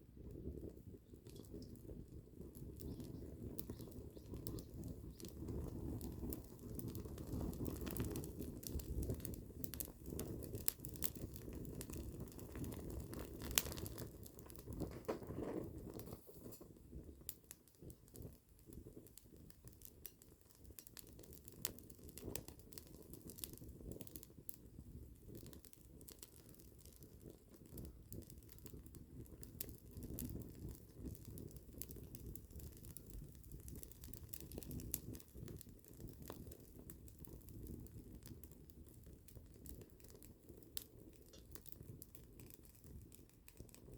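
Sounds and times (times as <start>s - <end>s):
campfire crackling: 0.0s - 43.9s
fire pops: 0.1s - 43.9s.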